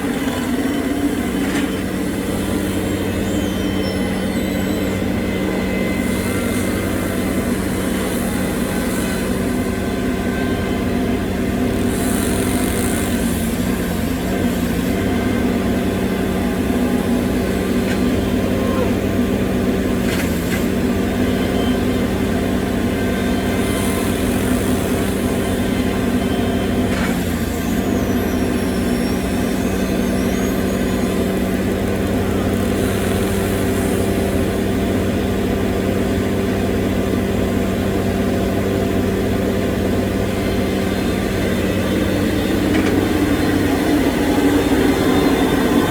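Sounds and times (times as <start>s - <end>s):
heavy machine engine running: 0.0s - 45.9s.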